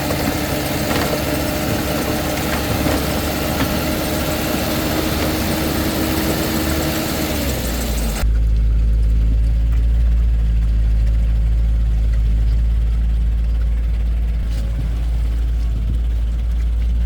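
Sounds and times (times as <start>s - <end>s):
heavy diesel engine running: 0.0s - 17.0s
loud deep rumble: 0.0s - 17.0s.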